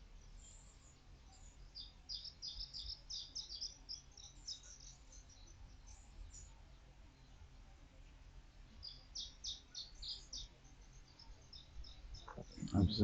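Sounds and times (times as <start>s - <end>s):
small bird chirping: 0.2s - 7.5s, 8.7s - 13.0s.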